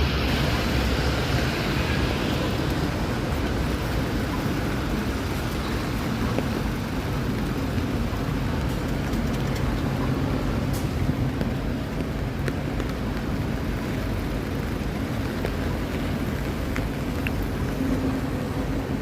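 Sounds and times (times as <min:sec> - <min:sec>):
passing vehicles: 0:00.0 - 0:19.0
road noise: 0:00.0 - 0:19.0.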